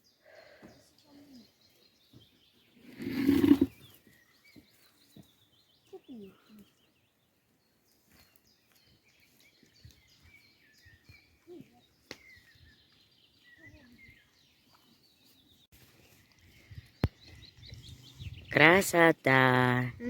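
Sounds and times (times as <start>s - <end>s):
songbirds chirping and trilling: 0.0s - 20.0s.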